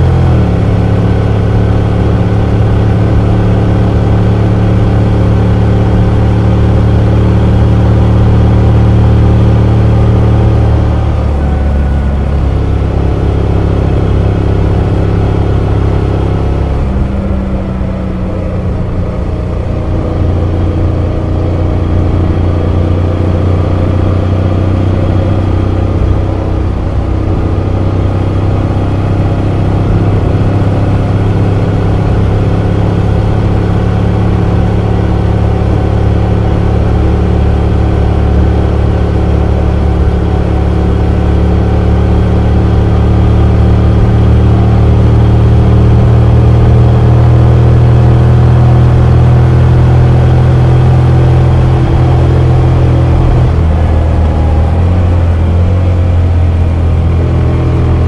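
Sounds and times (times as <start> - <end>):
motorcycle engine cruising drone: 0.0 - 58.0.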